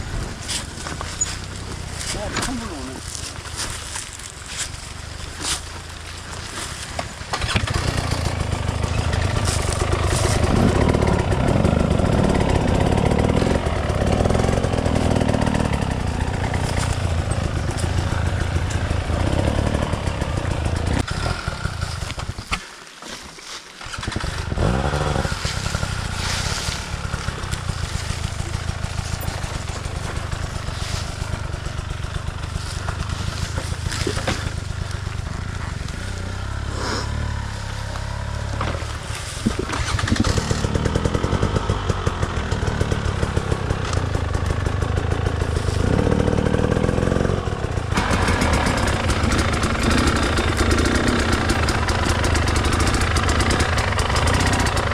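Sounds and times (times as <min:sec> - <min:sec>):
dirt bike engine revving: 0:00.0 - 0:22.5, 0:23.8 - 0:54.9.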